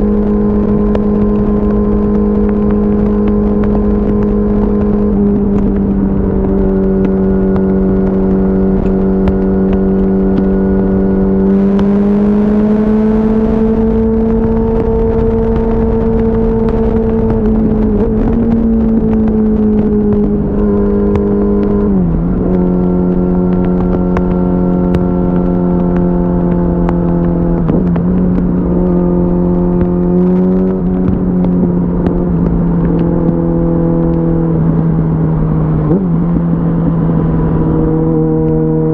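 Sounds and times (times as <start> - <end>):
motorcycle engine at speed: 0.0 - 38.9
wind rush: 0.0 - 38.9.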